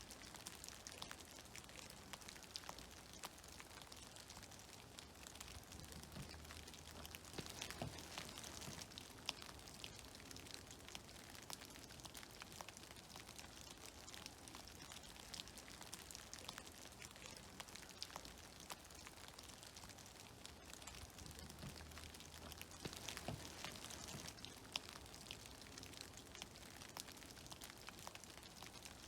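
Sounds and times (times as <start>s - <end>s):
meltwater dripping from trees: 0.0s - 29.0s.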